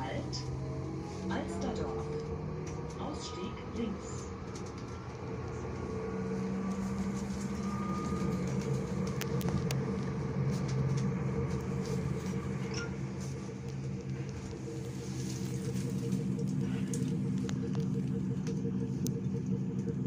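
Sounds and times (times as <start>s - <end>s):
electric train motor whine: 0.0s - 20.0s
train wheels rumbling: 0.0s - 20.0s.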